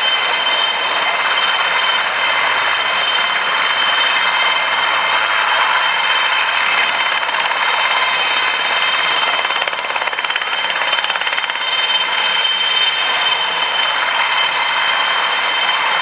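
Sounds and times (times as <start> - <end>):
helicopter engine whine: 0.0 - 16.0
helicopter rotor chopping: 0.0 - 16.0.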